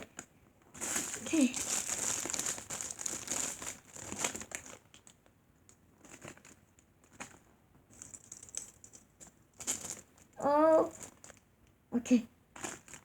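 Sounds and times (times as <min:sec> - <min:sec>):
squishy toys crinkling and rustling: 0:00.0 - 0:11.8, 0:12.5 - 0:13.0.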